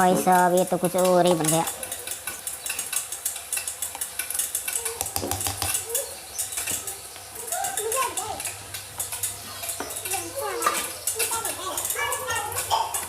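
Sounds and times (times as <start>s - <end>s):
small clinks: 0.4s - 13.0s.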